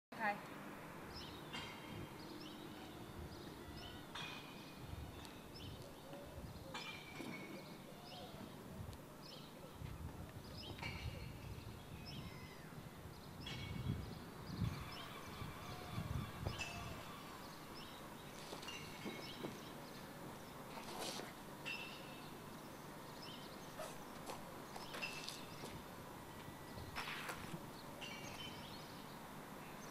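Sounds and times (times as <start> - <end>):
birds chirping: 1.1 - 29.9.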